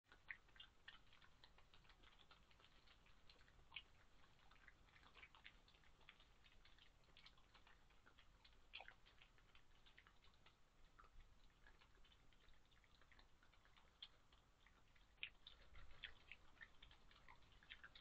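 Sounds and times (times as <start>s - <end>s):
badgers chewing peanuts: 0.1s - 18.0s.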